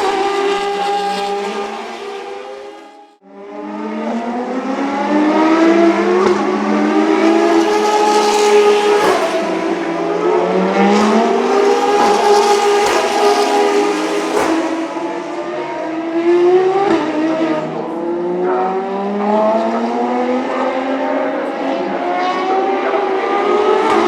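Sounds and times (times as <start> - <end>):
racing engine at high revs: 0.0 - 24.0.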